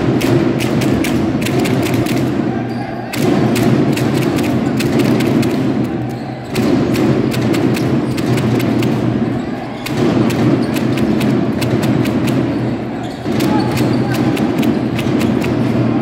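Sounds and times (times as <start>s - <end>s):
sharp thumps and knocks: 0.0s - 2.4s, 3.1s - 12.6s, 13.2s - 15.8s
arena crowd din: 0.0s - 16.0s
ball bouncing on court: 0.0s - 16.0s.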